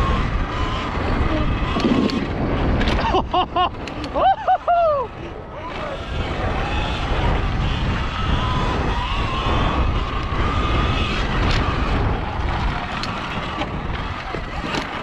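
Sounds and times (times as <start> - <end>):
electric motor whine: 0.0 - 3.2, 3.8 - 15.0
tyres on dirt: 0.0 - 15.0
wind buffeting microphone: 0.0 - 15.0.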